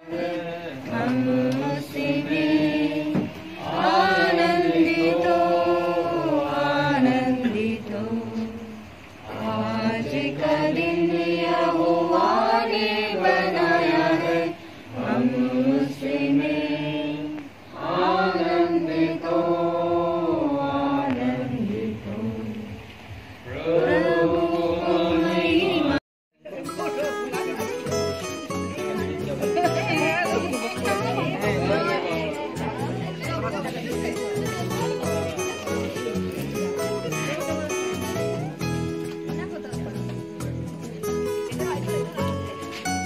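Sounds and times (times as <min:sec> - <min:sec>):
voices singing a hymn: 0:00.0 - 0:26.0, 0:27.4 - 0:39.6.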